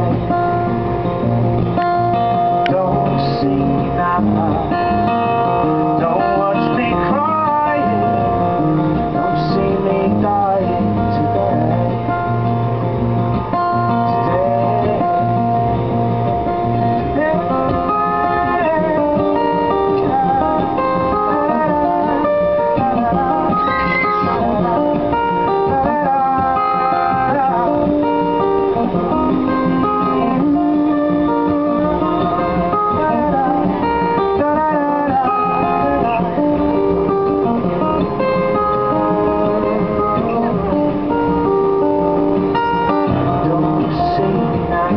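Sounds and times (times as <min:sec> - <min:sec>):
acoustic guitar strummed: 0:00.0 - 0:44.9.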